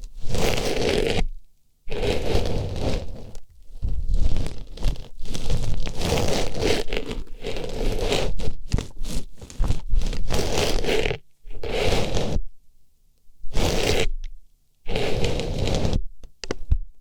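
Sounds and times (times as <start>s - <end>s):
scratchy rustling in ear: 0.0s - 12.5s, 13.4s - 14.2s, 14.8s - 16.1s.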